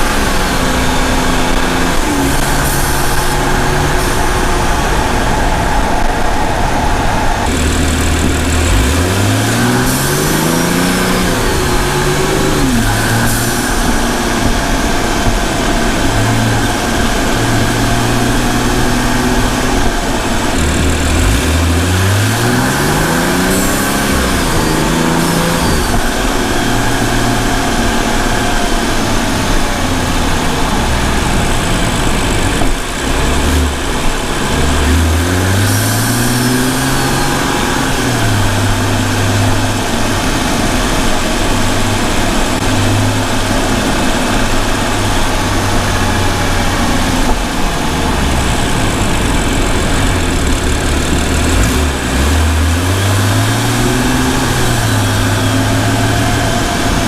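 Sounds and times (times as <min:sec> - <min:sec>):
car exhaust engine note: 0:00.0 - 0:57.0
steady rushing noise: 0:00.0 - 0:57.0.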